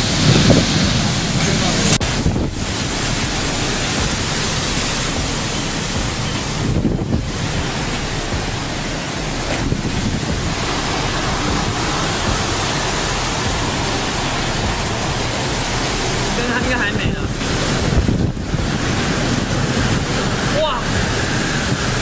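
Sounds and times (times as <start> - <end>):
heavy driving rain: 0.0 - 22.0
storm wind: 0.0 - 22.0.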